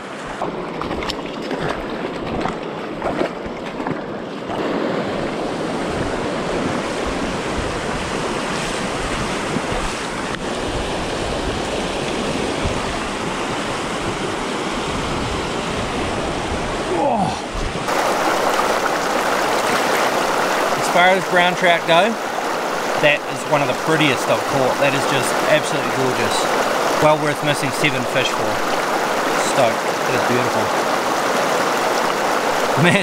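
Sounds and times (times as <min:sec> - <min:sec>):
river water rushing over stones: 0:00.0 - 0:33.0.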